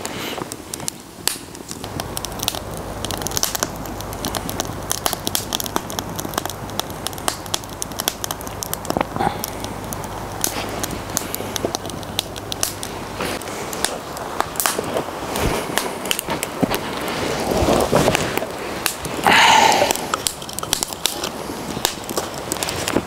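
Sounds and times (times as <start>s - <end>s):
wood fire crackling and popping: 0.0s - 23.0s
low steady rumble: 1.2s - 23.0s.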